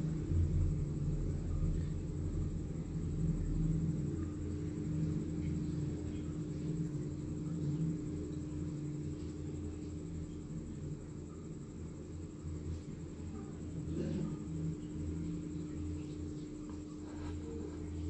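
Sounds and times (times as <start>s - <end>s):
machine hum with rumble: 0.0s - 18.0s.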